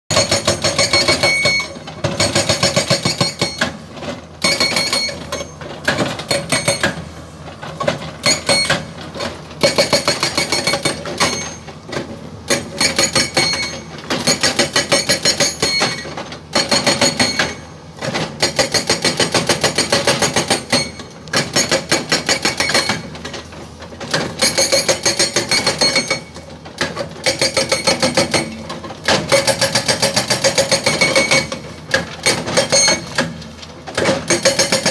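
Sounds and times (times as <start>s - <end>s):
hydraulic rock breaker hammering: 0.1s - 7.1s, 7.8s - 34.9s.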